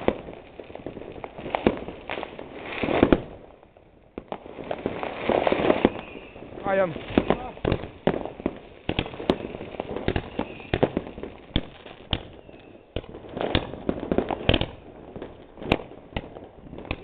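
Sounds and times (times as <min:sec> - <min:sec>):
fireworks banging and popping: 0:00.0 - 0:17.0.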